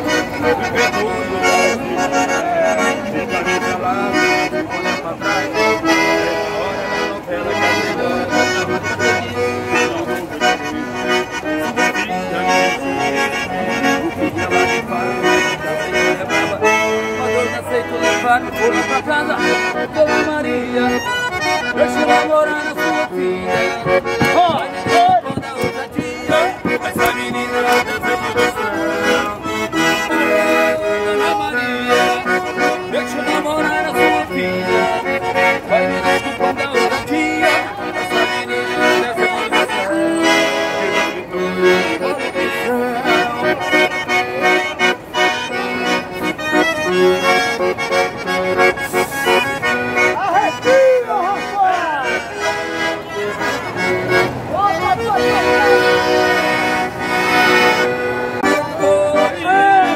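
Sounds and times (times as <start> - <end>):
accordion playing lively tune: 0.0 - 59.9.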